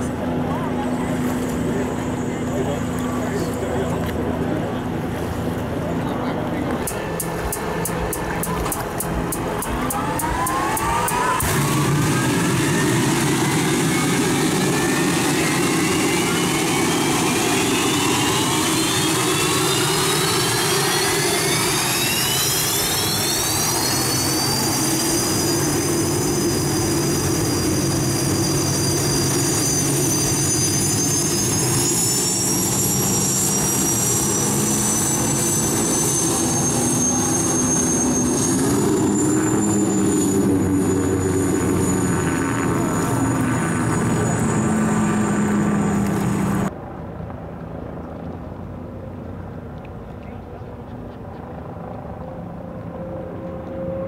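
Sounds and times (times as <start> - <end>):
gas-turbine engine whine: 0.0 - 54.0.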